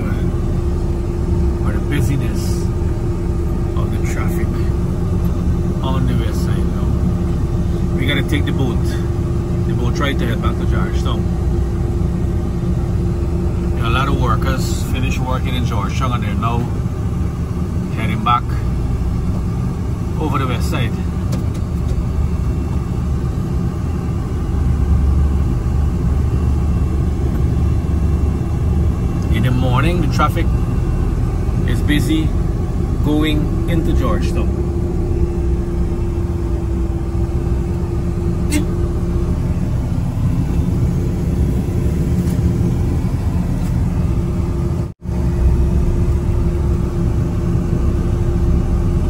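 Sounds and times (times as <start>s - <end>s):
car rumble from inside: 0.0s - 49.0s.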